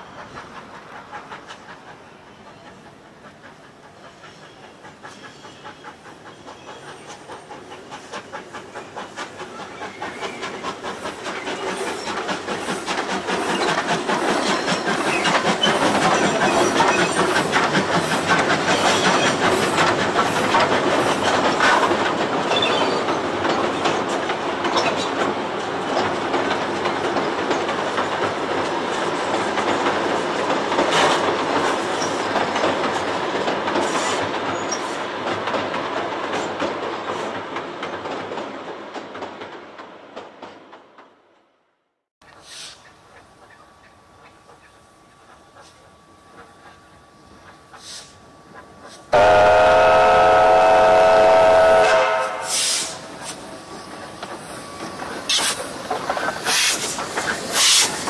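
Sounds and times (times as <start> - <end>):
train wheels clattering on bridge: 0.0 - 41.2, 51.9 - 58.0.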